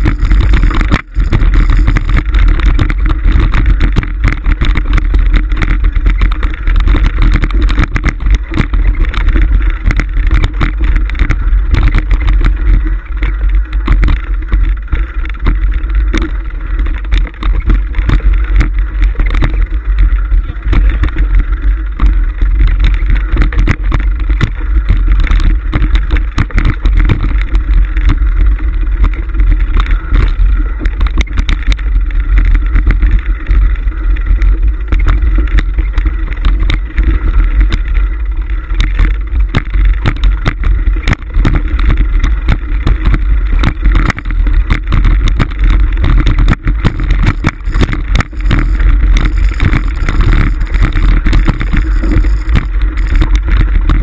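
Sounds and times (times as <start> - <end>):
bike rattling and knocking: 0.0 - 54.0
bike rumbling over rocky dirt: 0.0 - 54.0.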